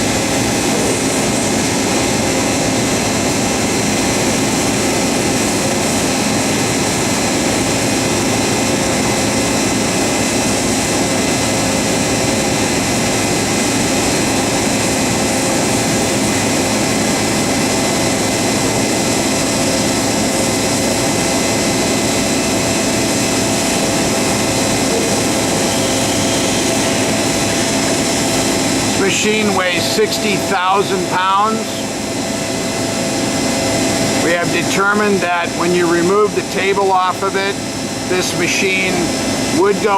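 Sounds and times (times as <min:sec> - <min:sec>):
machining center whirring and whining: 0:00.0 - 0:39.9.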